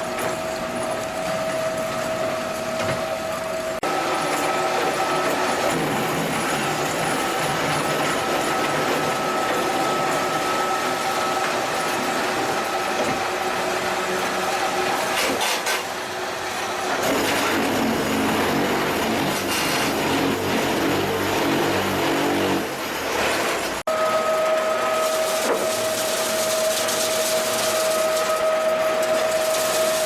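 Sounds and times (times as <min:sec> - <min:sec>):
block machine running: 0:00.0 - 0:30.0
constant mechanical whine: 0:00.0 - 0:30.0.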